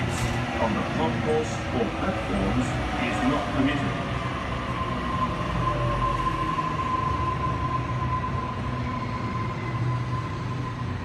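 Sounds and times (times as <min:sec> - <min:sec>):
electric train high whine: 0:00.0 - 0:11.0.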